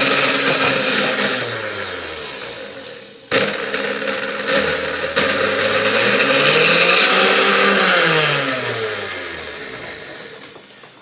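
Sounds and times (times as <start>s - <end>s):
mixer motor running: 0.0s - 10.6s.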